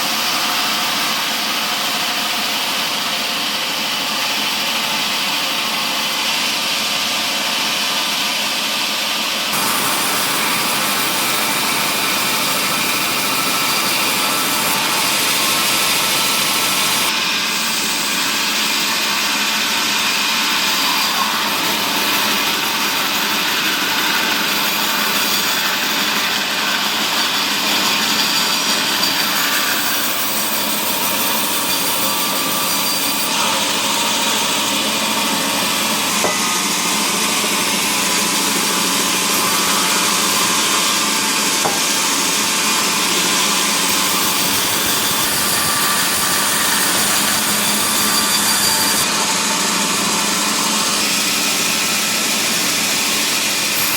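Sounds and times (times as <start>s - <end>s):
sawmill machine sawing timber: 0.0s - 53.9s.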